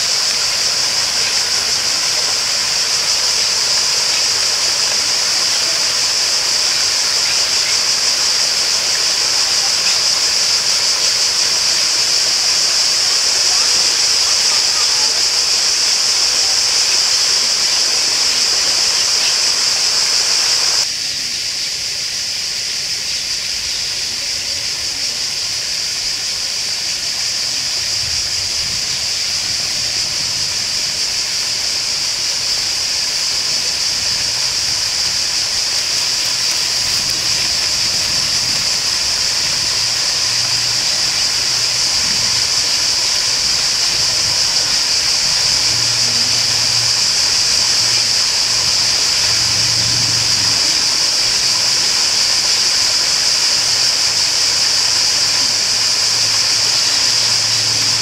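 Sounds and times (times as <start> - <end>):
water rushing: 0.0 - 20.9, 22.0 - 58.0.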